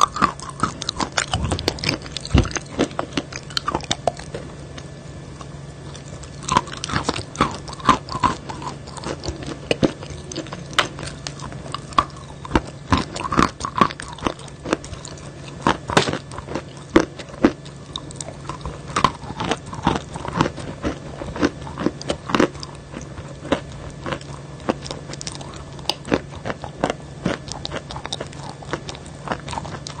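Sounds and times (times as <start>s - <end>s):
person chewing crunchy chalk: 0.0s - 30.0s
steady low hum: 0.0s - 30.0s.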